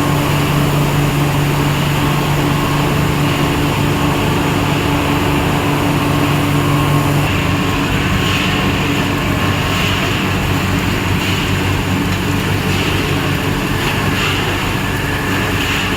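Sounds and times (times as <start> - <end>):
production line machine hum: 0.0 - 15.9.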